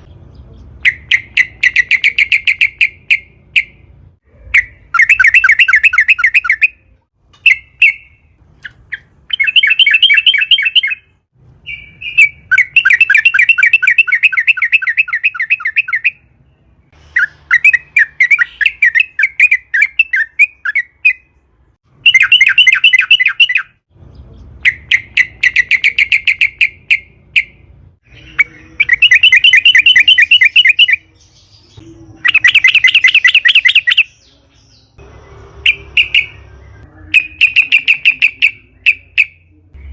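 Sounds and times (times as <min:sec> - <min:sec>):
bird chattering song: 0:00.0 - 0:06.8, 0:07.4 - 0:21.4, 0:22.0 - 0:35.0, 0:35.6 - 0:39.9.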